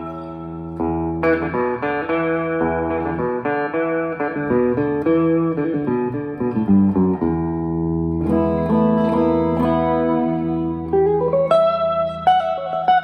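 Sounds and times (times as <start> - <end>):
electric guitar chords and notes: 0.0 - 13.0.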